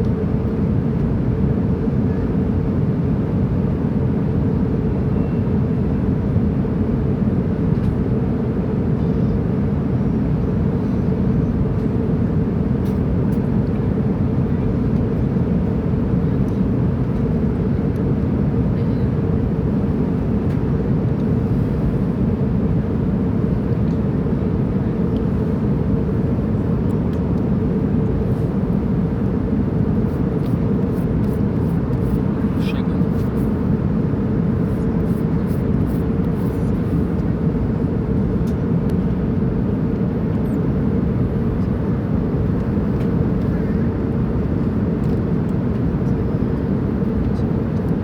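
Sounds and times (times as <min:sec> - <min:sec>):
airplane engine drone: 0:00.0 - 0:48.0.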